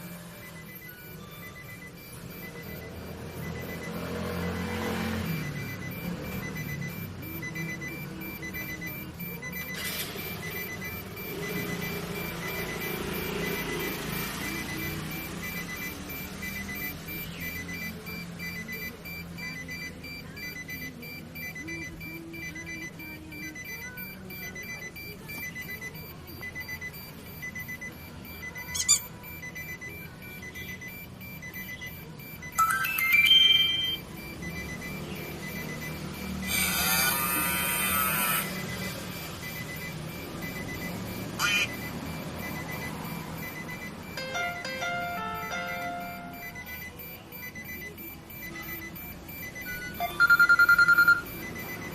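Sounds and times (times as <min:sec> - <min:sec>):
short high electronic beeps: 0:00.0 - 0:51.9.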